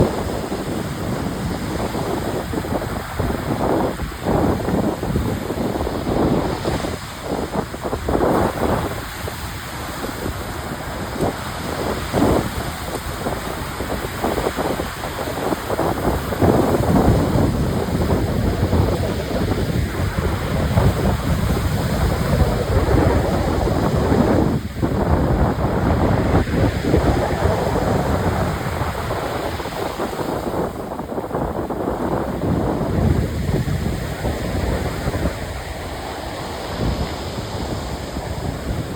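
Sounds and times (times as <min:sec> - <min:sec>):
sea surf washing in: 0:00.0 - 0:38.9
wind buffeting microphone: 0:00.0 - 0:38.9.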